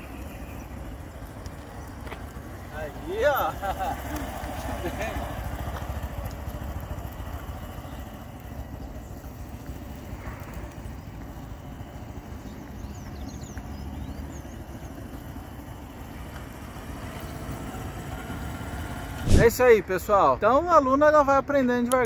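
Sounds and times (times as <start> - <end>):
distant motorcycle engine rumble: 0.0 - 21.2.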